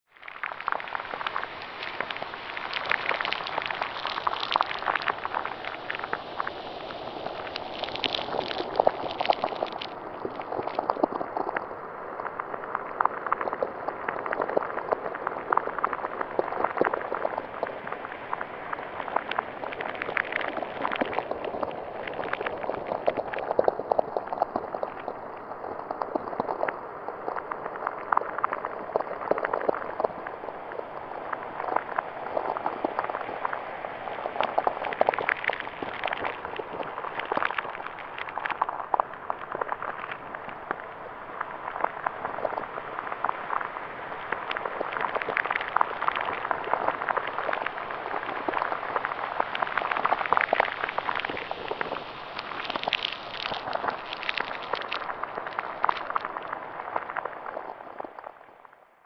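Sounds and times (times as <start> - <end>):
dense bubbling and crackling: 0.0 - 59.0
small pops: 0.2 - 11.7, 12.3 - 58.4.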